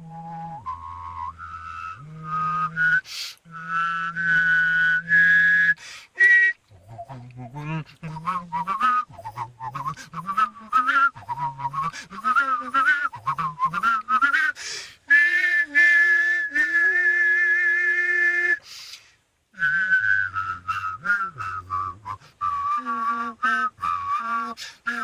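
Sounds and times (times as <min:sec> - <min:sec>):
person whistling a melody: 0:00.0 - 0:18.6, 0:19.6 - 0:25.0
person humming: 0:02.0 - 0:18.6, 0:19.6 - 0:25.0.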